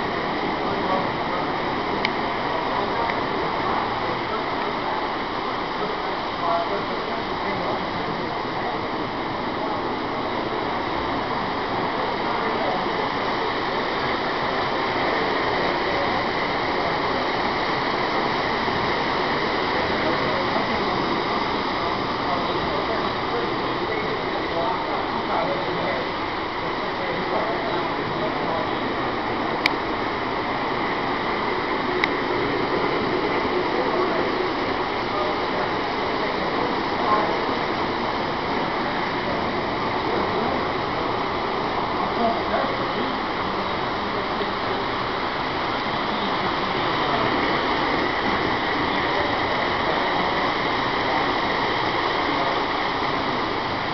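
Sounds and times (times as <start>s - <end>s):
crowd hubbub: 0.0s - 53.9s
model trains running: 0.0s - 53.9s
room noise: 0.0s - 53.9s.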